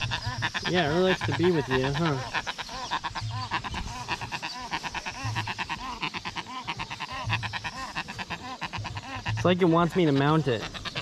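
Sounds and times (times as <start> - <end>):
bird bleat-like calls: 0.0 - 11.0.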